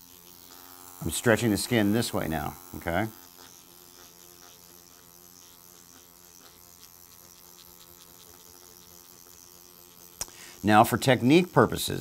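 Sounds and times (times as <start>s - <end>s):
electric pen buzzing: 0.0s - 12.0s.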